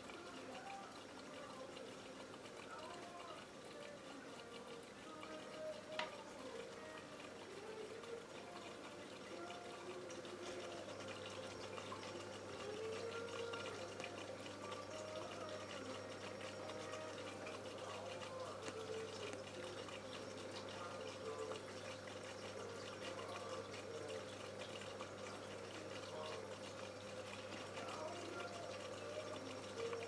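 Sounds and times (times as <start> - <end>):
aquarium water trickling and bubbling: 0.0 - 30.0.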